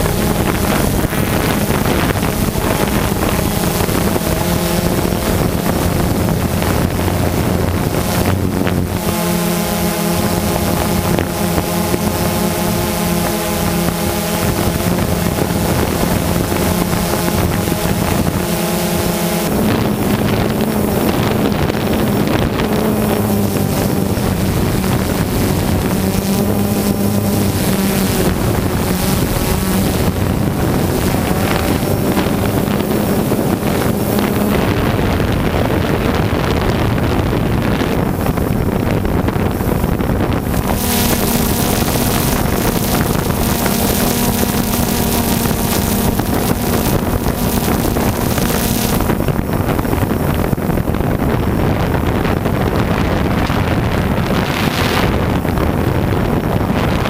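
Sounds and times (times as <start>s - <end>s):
drone motors whirring: 0.0s - 57.0s
wind on microphone: 0.0s - 57.0s.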